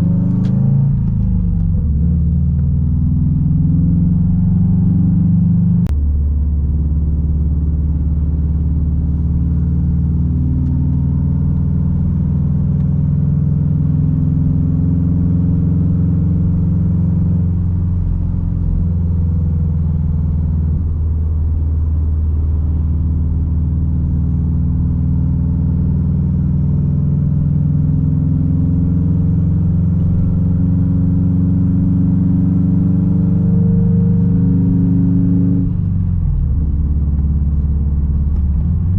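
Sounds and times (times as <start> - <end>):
car exhaust rumbling deep: 0.0 - 38.9.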